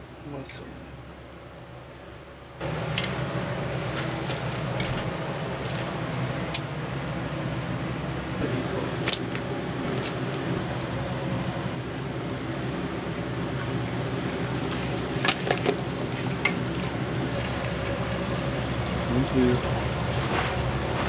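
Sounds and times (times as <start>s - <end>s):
steady cooking hiss: 2.6s - 21.0s.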